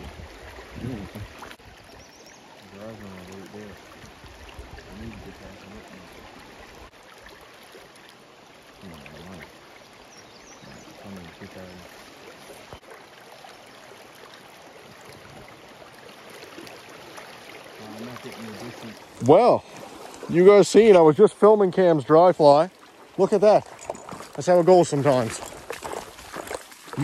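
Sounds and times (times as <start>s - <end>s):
river current rushing: 0.0s - 27.0s.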